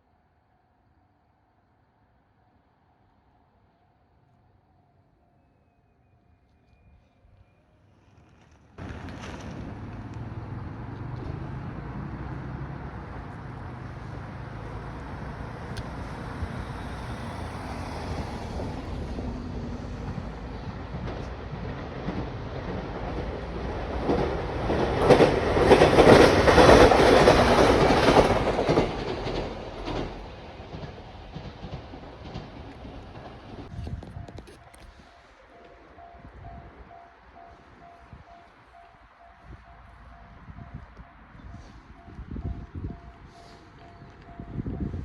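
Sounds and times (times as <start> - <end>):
train passing: 2.6 - 45.0.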